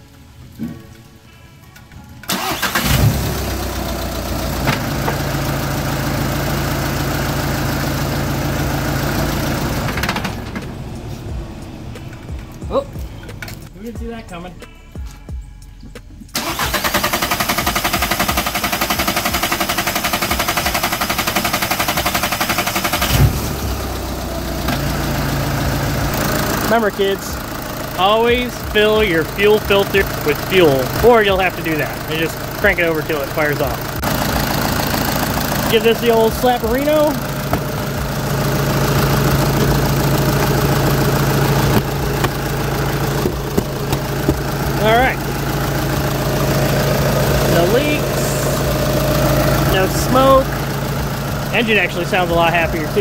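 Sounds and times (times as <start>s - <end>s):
diesel engine cranking on starter: 2.2s - 13.8s, 16.3s - 53.0s
diesel engine rough idle: 2.2s - 14.5s, 16.2s - 53.0s.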